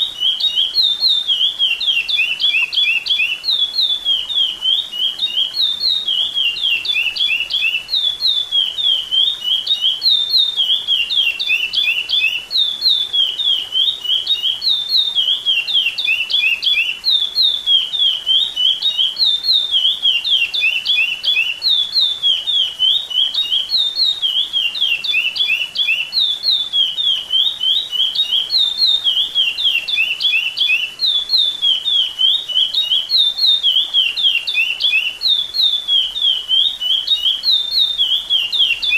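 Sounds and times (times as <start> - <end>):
finch singing whistled notes: 0.0 - 38.9.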